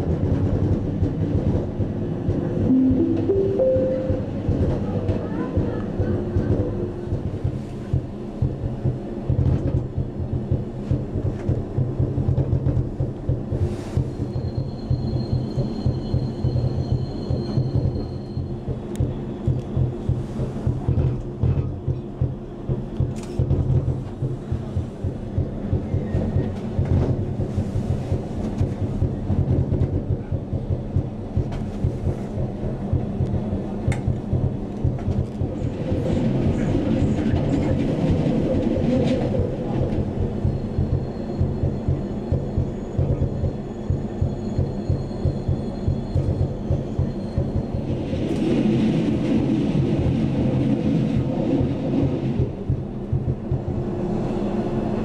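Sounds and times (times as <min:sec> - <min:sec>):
train rumbling on track: 0:00.0 - 0:55.0.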